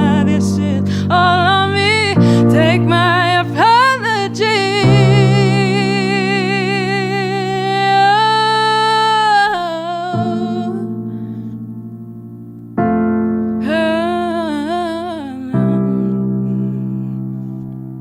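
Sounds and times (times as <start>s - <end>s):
woman singing with vibrato: 0.0s - 10.9s, 13.6s - 17.2s.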